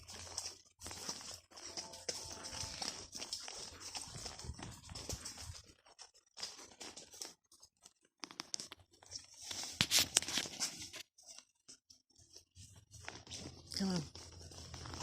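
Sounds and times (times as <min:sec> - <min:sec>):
horse hooves on dirt trail: 0:00.0 - 0:08.0, 0:08.9 - 0:15.0.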